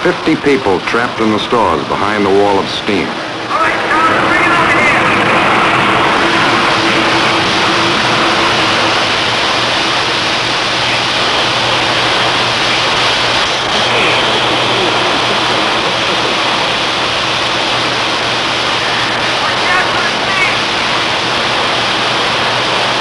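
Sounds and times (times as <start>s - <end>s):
steam hissing from pipe: 0.0s - 23.0s.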